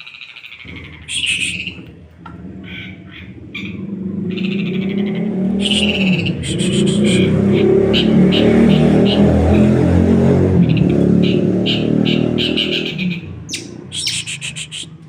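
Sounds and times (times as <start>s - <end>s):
bird harsh chirping calls: 0.0s - 14.9s
low engine drone: 0.6s - 15.0s.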